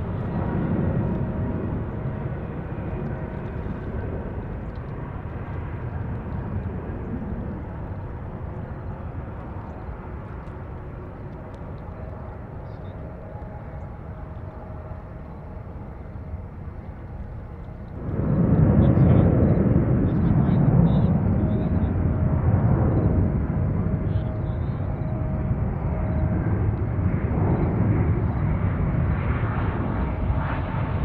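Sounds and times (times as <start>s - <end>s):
jet engines rumbling with whine: 0.0s - 31.0s.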